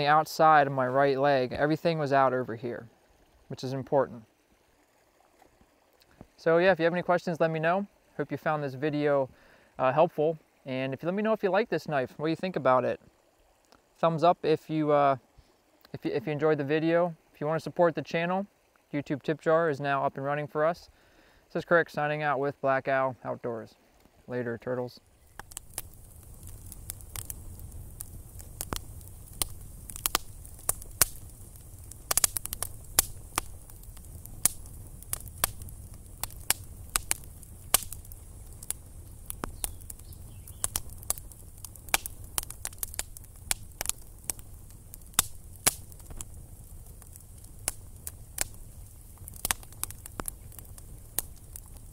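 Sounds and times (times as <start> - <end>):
campfire crackling and popping: 0.0 - 15.1, 24.0 - 51.9.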